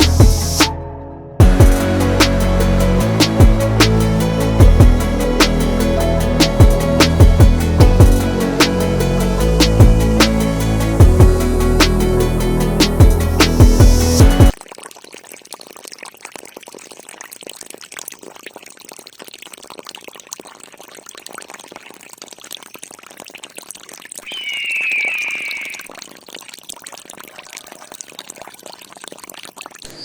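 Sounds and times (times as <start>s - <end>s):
water splashing and trickling: 1.4s - 30.0s.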